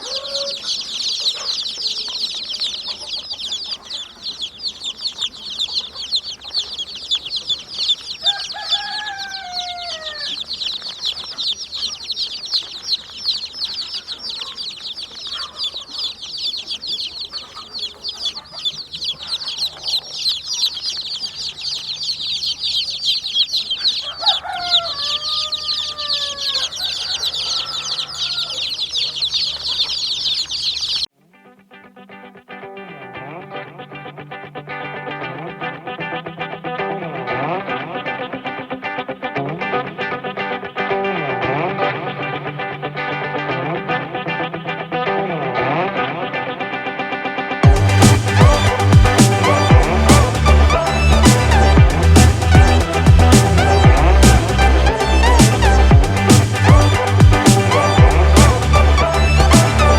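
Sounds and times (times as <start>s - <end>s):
chicken falling calls: 0.0s - 31.1s, 35.0s - 59.9s
chickens peeping and chirping: 0.0s - 31.1s, 33.3s - 59.9s.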